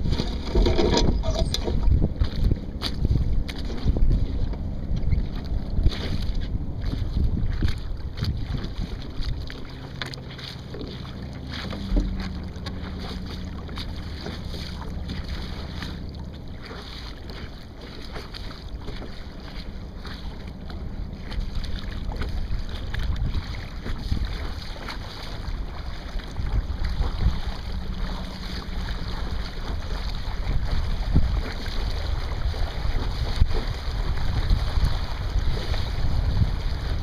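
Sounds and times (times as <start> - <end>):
water slapping along hull: 0.0 - 37.0
wind buffeting microphone: 0.0 - 37.0.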